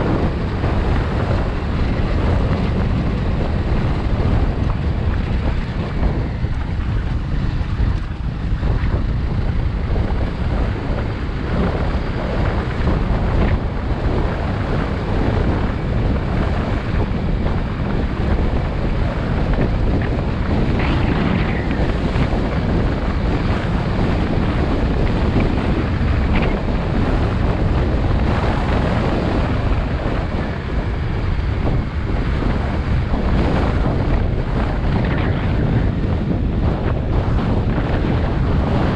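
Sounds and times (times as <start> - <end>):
dirt bike engine running: 0.0 - 38.9
wind buffeting microphone: 0.0 - 38.9.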